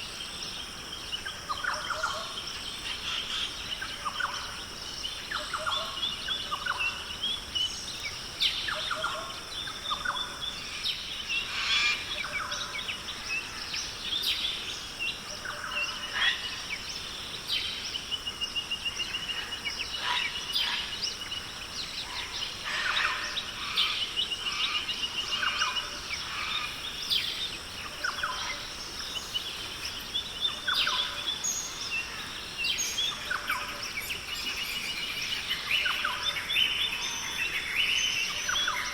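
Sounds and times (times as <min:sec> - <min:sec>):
birds chirping and trilling: 0:00.0 - 0:38.9.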